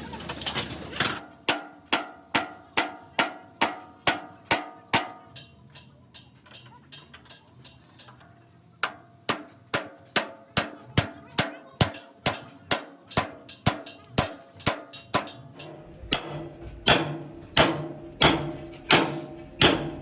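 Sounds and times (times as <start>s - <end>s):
hammer striking steel: 1.4s - 8.1s, 8.8s - 20.0s.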